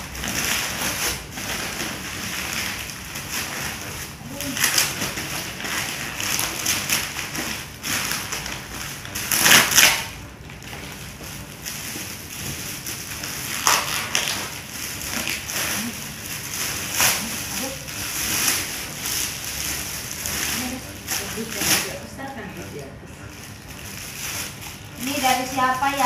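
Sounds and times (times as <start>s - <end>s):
plastic and wrapping paper rustling: 0.0s - 26.0s.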